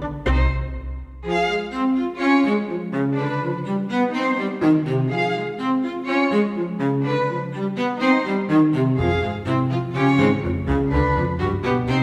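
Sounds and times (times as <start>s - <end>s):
bowed strings music: 0.0s - 12.0s.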